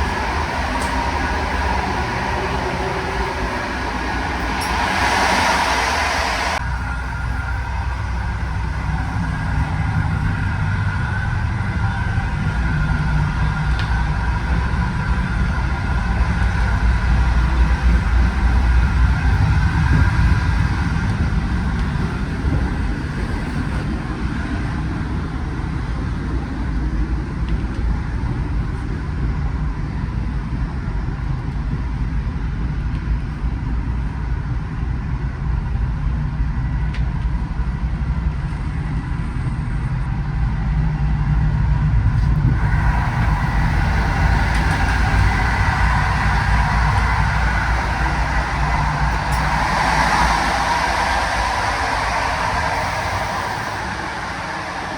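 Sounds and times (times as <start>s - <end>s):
train rumble inside carriage: 0.0s - 54.9s.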